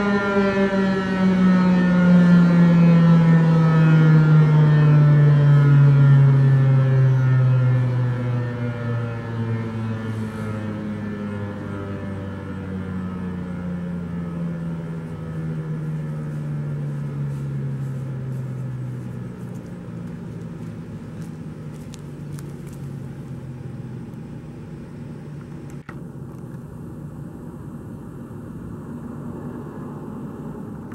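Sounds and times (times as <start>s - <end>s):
warning siren winding down: 0.0s - 26.2s
outdoor rumble: 0.0s - 30.9s.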